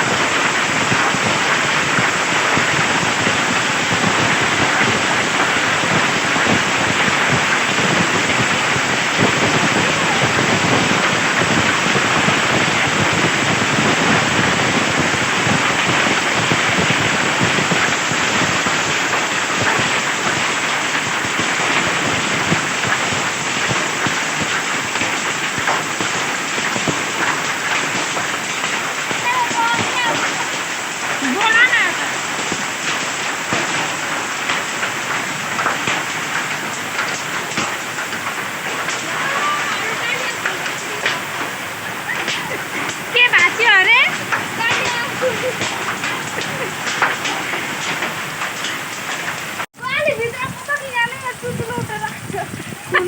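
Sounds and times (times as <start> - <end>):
heavy rain pelting a surface: 0.0 - 53.0.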